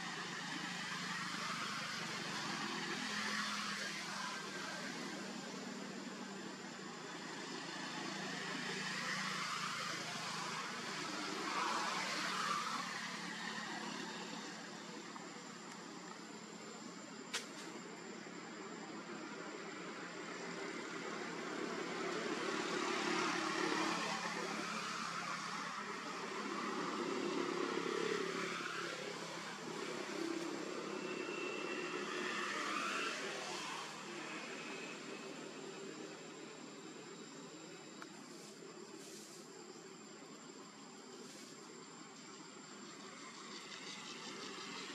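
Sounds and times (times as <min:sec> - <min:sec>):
passing motor traffic: 0:00.0 - 0:16.8, 0:19.0 - 0:39.3, 0:42.2 - 0:44.9
faint high whine: 0:00.0 - 0:44.9
steady background hiss: 0:00.0 - 0:44.9.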